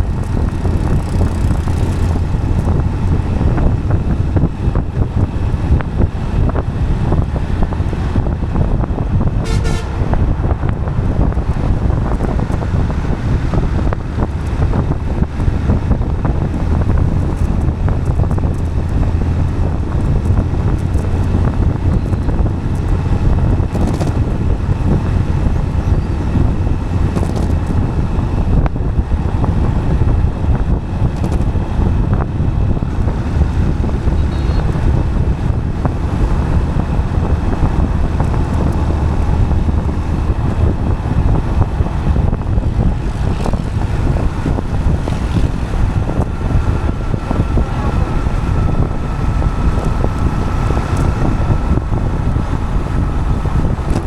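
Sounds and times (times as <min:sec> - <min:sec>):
road rumble on asphalt: 0:00.0 - 0:54.0
wind buffeting microphone: 0:00.0 - 0:54.0.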